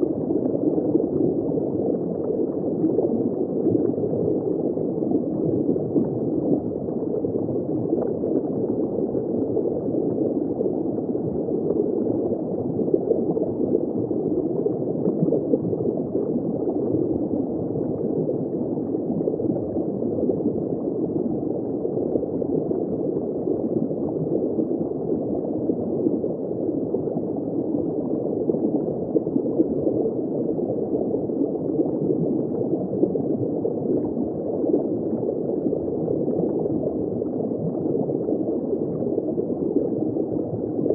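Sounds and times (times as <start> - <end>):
underwater bubbling: 0.0 - 40.9.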